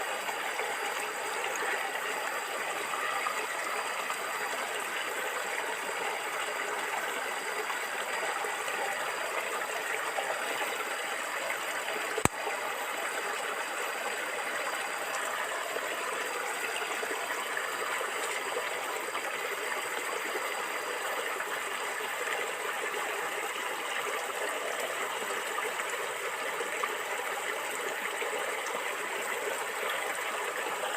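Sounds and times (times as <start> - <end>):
stream of water gurgling: 0.0 - 30.9.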